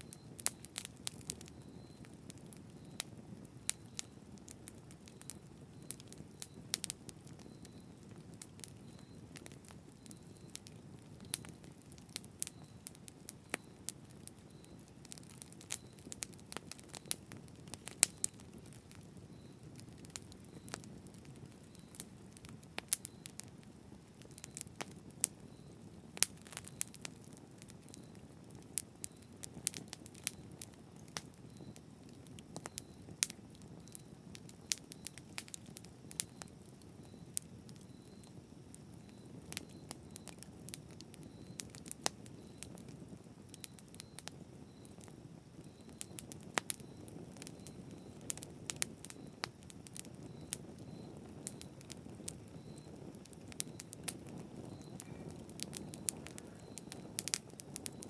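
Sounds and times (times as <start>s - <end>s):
low rumble of flames: 0.0s - 58.0s
wood crackling pops and snaps: 0.1s - 38.4s, 39.0s - 58.0s.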